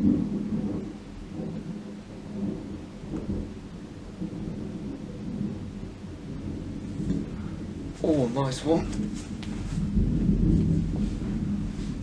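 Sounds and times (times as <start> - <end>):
rolling thunder: 0.0 - 12.0
steady rain falling: 0.0 - 12.0.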